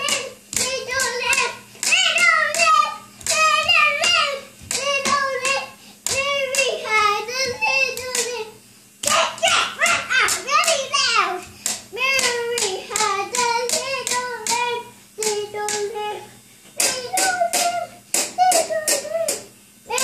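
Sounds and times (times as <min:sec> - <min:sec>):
girl singing: 0:00.0 - 0:20.0.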